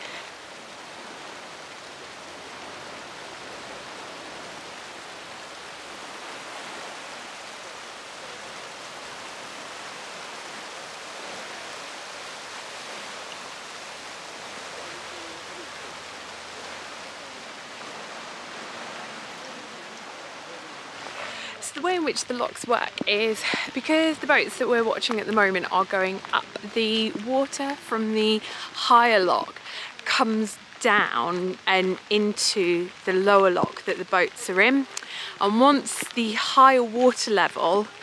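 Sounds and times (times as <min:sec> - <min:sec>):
water gushing through sluices: 0:00.0 - 0:38.0.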